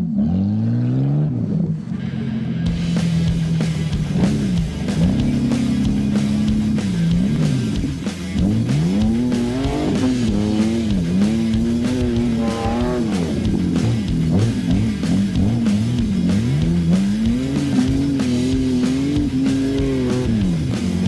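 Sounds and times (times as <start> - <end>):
car engine revving: 0.0 - 21.0
guitar music: 1.9 - 21.0.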